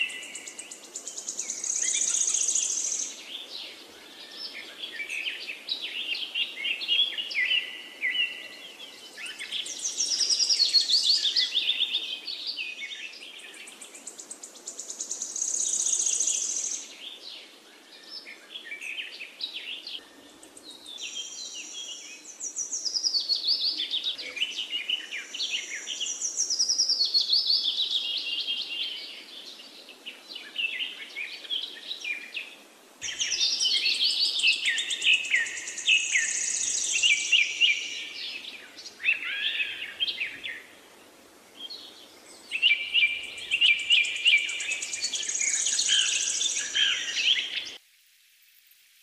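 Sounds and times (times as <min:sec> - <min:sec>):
small birds chirping: 0:00.0 - 0:47.8.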